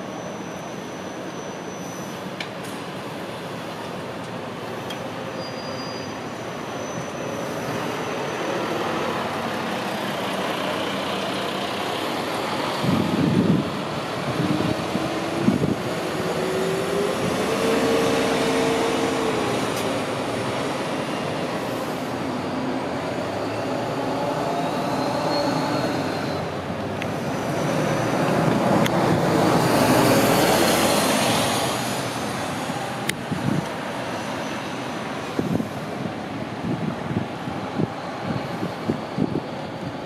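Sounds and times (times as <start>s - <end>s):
bus engine: 0.0s - 40.0s
road noise: 0.0s - 40.0s.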